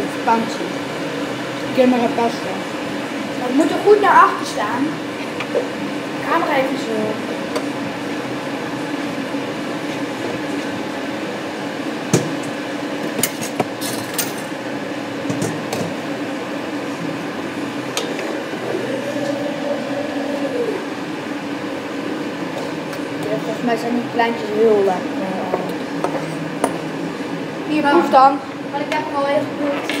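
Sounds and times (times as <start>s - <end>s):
steady low hum: 0.0s - 29.7s.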